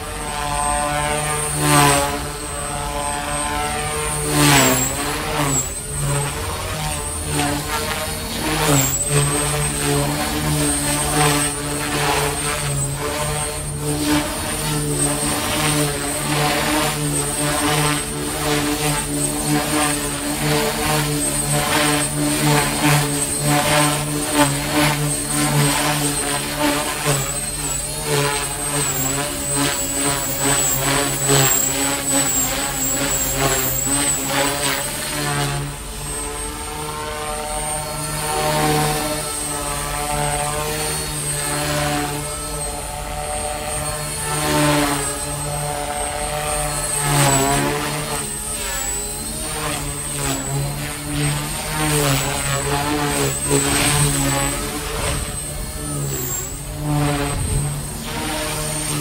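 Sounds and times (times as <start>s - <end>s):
helicopter rotor beating: 0.0s - 59.0s
high thin motor whine: 0.0s - 59.0s.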